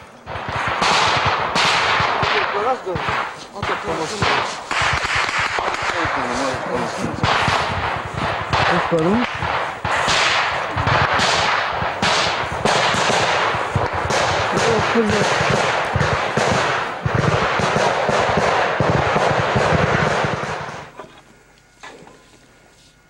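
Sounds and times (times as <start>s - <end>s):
automatic weapons fire: 0.3s - 21.0s.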